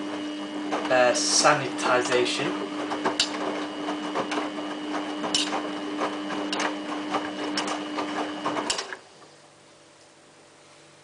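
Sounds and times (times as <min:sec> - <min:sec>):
washing machine motor hum: 0:00.0 - 0:10.6.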